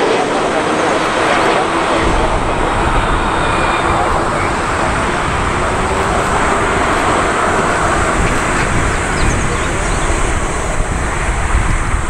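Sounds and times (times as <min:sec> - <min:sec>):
jet engines roaring: 0:00.0 - 0:12.0
unsteady low rumble: 0:00.0 - 0:12.0.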